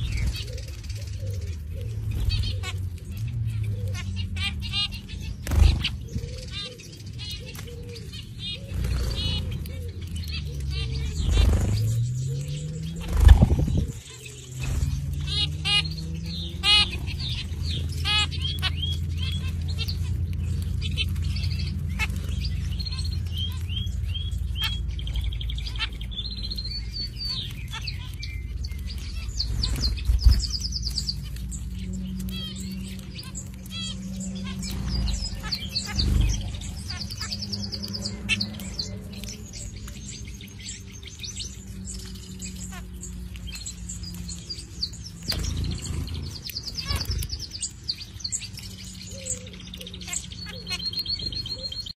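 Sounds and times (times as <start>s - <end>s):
steady low rumble: 0.0s - 49.7s
small birds chirping: 0.0s - 52.0s.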